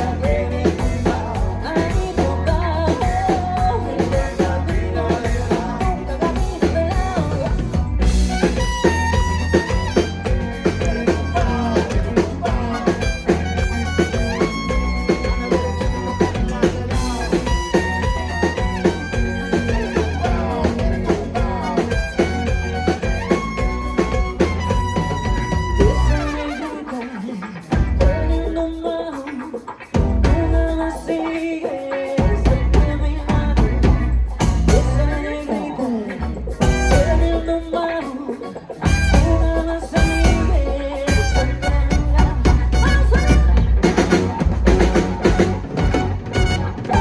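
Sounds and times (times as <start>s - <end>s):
drum kit beat: 0.0s - 47.0s
latin pop band playing: 0.0s - 47.0s
person singing: 0.0s - 47.0s.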